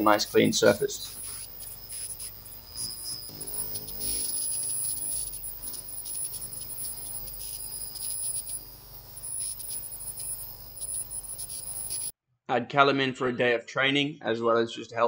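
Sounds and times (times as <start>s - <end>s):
laser cleaner whine: 0.0s - 12.1s.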